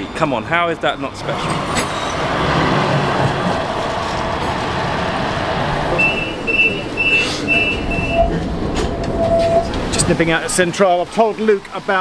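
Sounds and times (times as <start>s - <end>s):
tram rolling rumble: 0.0s - 10.6s.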